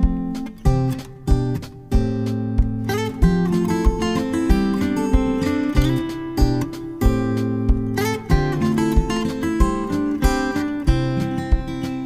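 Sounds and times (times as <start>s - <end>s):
acoustic guitar music with beat: 0.0s - 12.0s.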